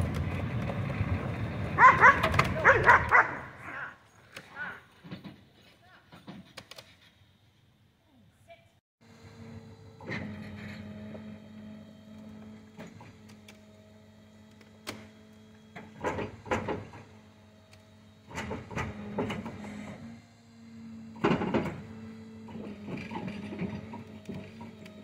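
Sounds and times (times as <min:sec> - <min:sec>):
trailer machinery humming: 0:00.0 - 0:05.6, 0:09.0 - 0:25.0.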